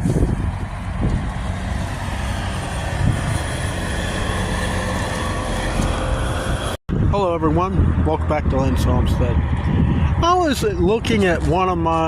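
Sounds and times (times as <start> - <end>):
vehicle running rumble: 0.0 - 12.0.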